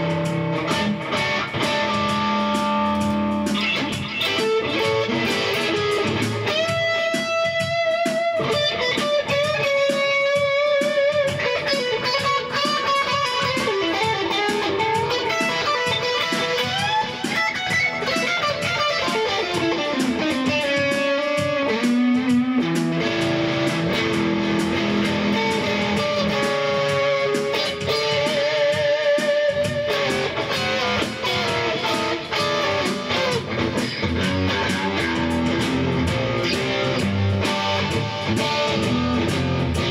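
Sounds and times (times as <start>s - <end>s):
electric guitar rock lead: 0.0s - 39.9s.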